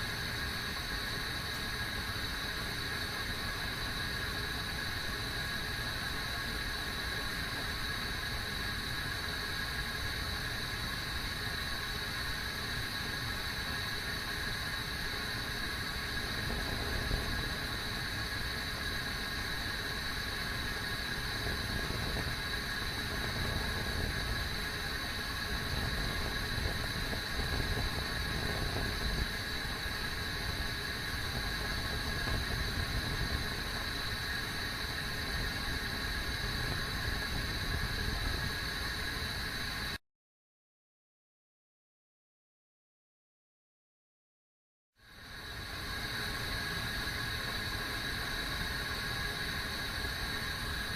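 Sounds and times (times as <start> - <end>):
kettle heating rumble and hiss: 0.0 - 40.0, 45.0 - 50.9.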